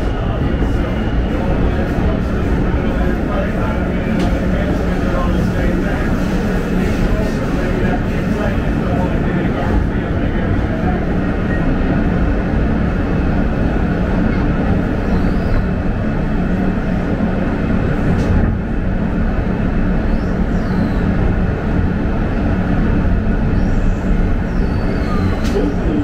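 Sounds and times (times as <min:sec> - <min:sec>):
wheels rumbling on rails: 0:00.0 - 0:26.0.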